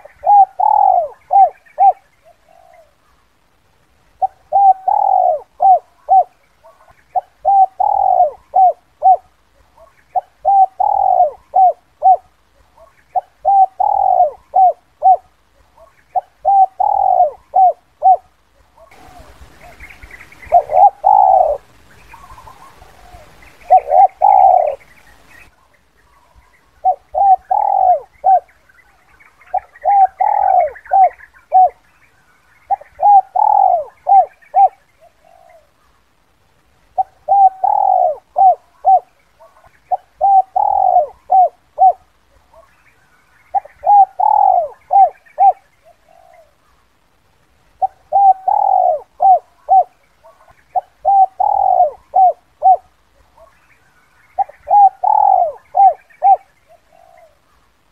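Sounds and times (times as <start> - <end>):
dove cooing: 0.0 - 3.2, 4.1 - 31.9, 32.6 - 35.9, 36.9 - 42.8, 43.4 - 46.8, 47.7 - 57.6.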